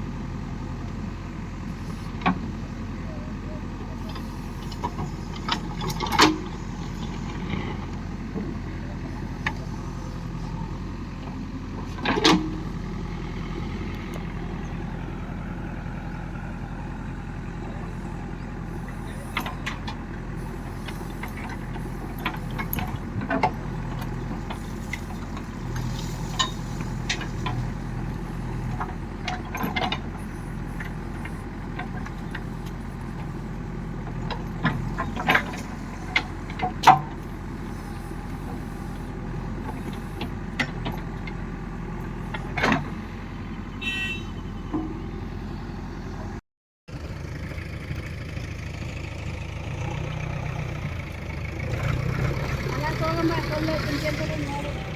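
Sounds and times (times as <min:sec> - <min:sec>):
diesel engine running steadily: 0:00.0 - 0:54.9.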